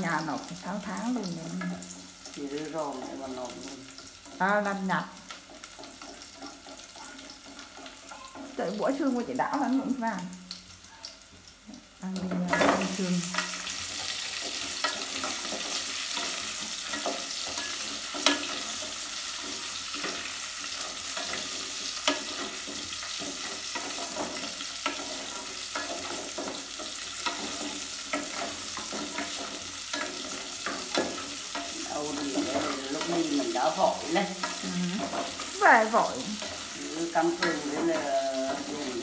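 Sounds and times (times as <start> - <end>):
ribs sizzling in a pot: 0.0 - 39.0.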